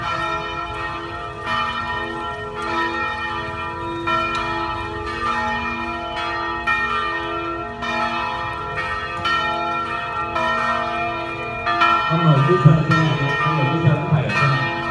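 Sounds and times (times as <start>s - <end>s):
church bells pealing: 0.0s - 14.9s.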